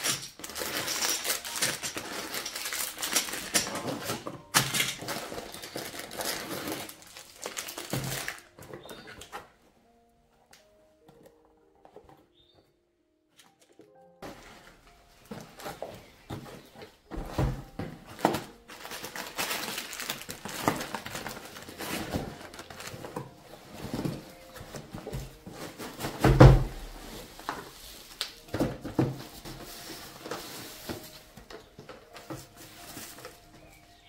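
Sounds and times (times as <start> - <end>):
packaging rustling: 0.0 - 9.6, 13.4 - 34.0.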